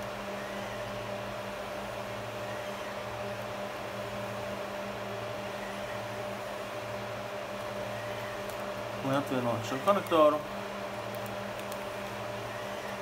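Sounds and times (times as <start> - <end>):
electrical hum: 0.0 - 13.0
fan whir: 0.0 - 13.0.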